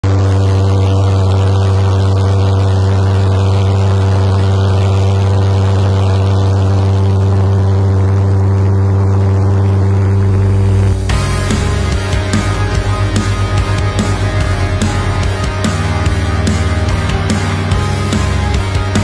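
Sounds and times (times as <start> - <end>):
pulsejet engine drone: 0.0 - 19.0.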